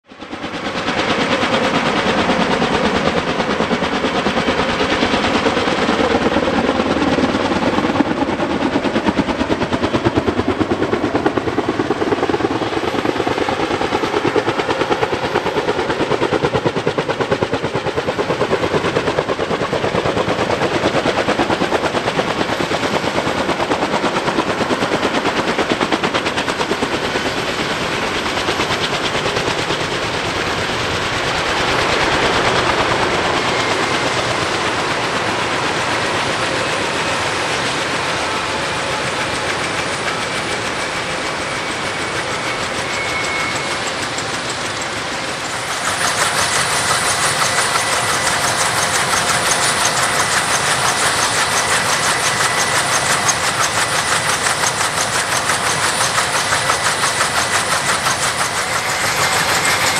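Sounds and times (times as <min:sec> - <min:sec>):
helicopter turbine running: 0:00.0 - 0:59.9
helicopter rotor blade slap: 0:00.3 - 0:59.9.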